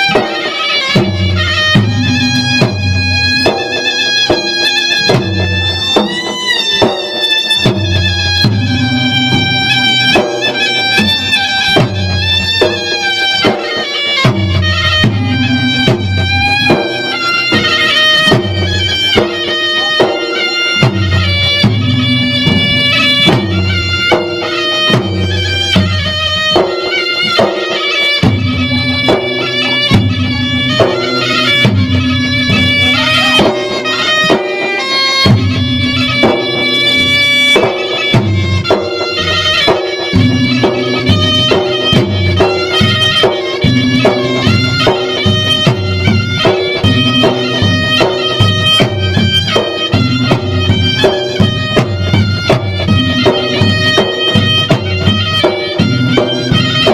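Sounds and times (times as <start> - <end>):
drums beaten in lively rhythm: 0.0 - 56.9
shrill reed pipe melody: 0.0 - 56.9.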